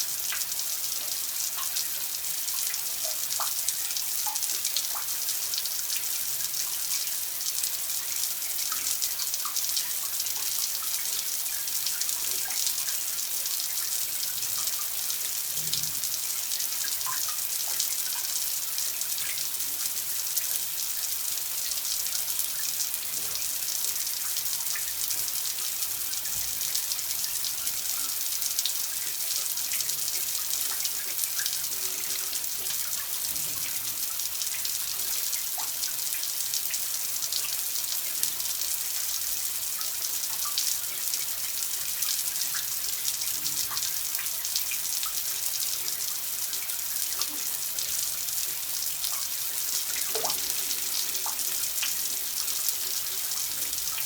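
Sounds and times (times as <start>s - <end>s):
water running in a stream: 0.0s - 54.0s.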